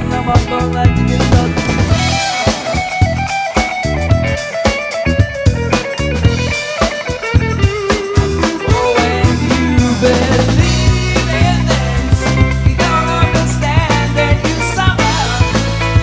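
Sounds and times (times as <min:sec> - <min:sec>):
bass guitar: 0:00.0 - 0:16.0
drum kit: 0:00.0 - 0:16.0
guitar melody: 0:00.0 - 0:16.0.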